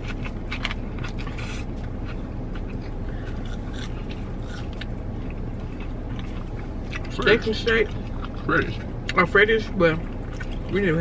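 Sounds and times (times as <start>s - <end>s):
mouths chewing food: 0.0s - 11.0s
steady low hum: 0.0s - 11.0s.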